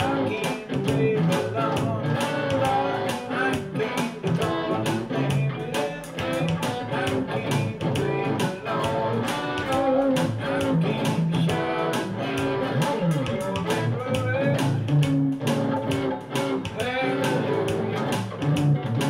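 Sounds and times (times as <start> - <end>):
electric guitar gospel shuffle: 0.0 - 19.0
percussive beat: 0.0 - 19.0.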